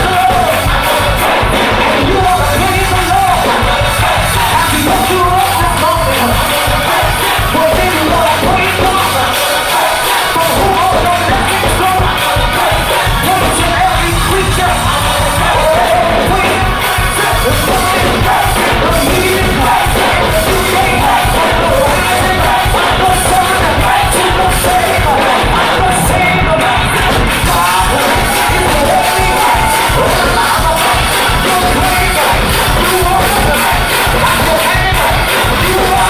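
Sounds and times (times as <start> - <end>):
band playing a steady beat: 0.0 - 36.0
gospel choir singing: 0.0 - 36.0.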